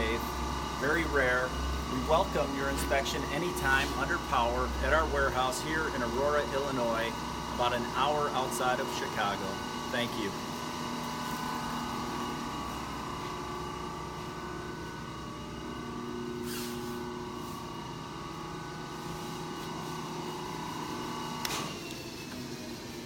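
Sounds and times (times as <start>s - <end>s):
lathe humming: 0.0s - 23.0s.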